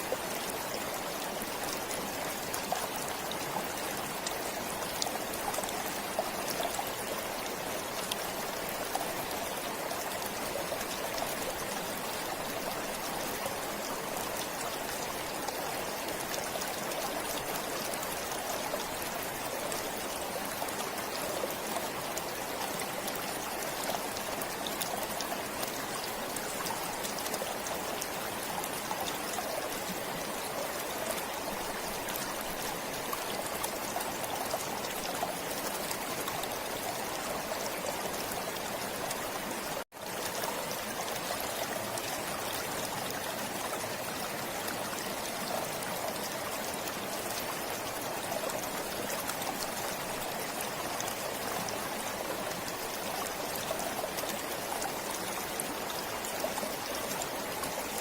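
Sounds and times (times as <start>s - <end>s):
forest stream flowing: 0.0s - 58.0s
water trickling and splashing: 0.0s - 58.0s.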